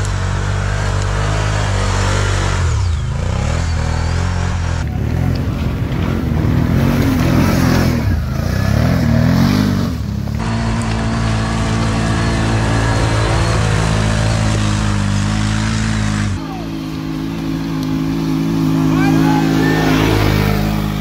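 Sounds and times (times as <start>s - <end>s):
atv engines revving: 0.0s - 21.0s.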